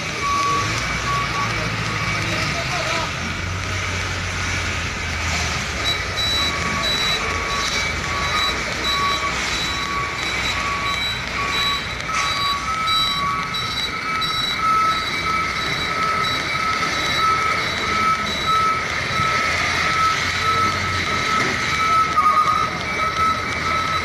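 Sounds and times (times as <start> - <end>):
truck engine rumble: 0.0 - 24.0
truck reversing alarm beeping: 0.0 - 24.0.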